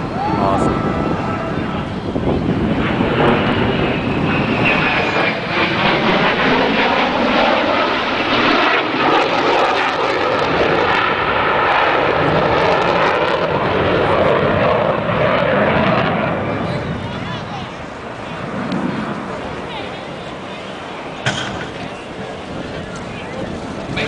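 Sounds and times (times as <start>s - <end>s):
jet flying past roaring: 0.0s - 24.0s.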